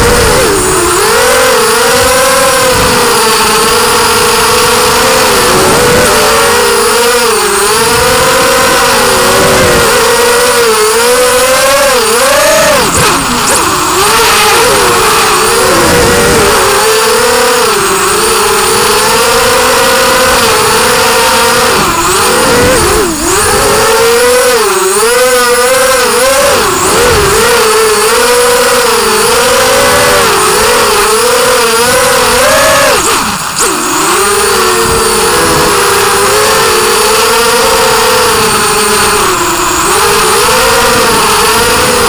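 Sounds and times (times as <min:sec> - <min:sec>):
quadcopter motors buzzing whine: 0:00.0 - 0:42.0.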